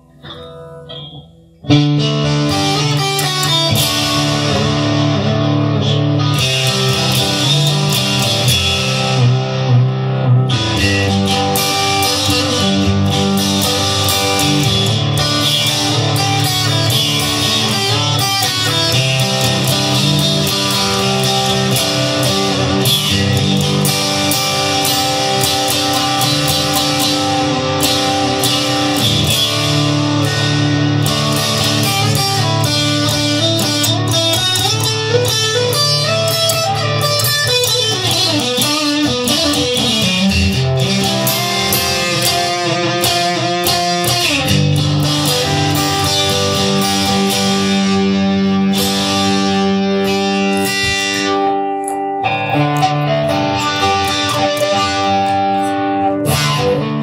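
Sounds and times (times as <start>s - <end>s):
guitar music: 0.0s - 57.0s.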